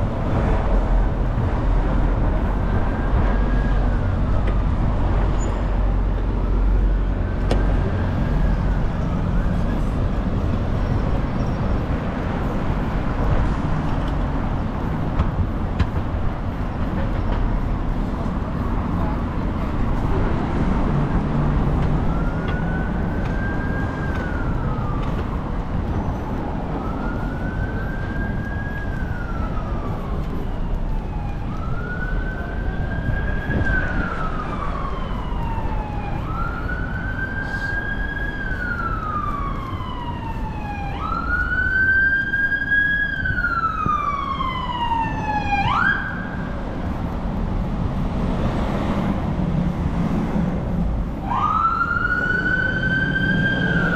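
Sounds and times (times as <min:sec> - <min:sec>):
emergency vehicle siren wailing: 0:00.0 - 0:53.9
road traffic noise: 0:00.0 - 0:53.9.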